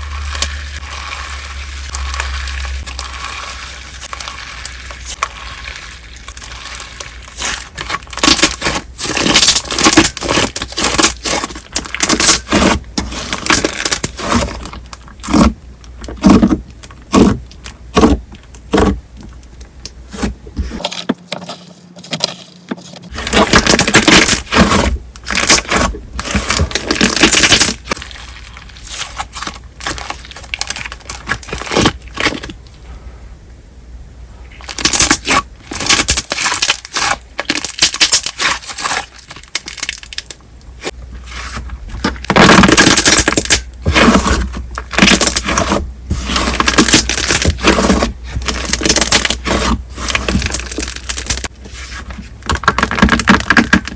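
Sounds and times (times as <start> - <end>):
slime crackling and popping: 0.0 - 19.0, 23.2 - 32.6, 34.6 - 41.0, 42.1 - 51.5, 52.4 - 53.9.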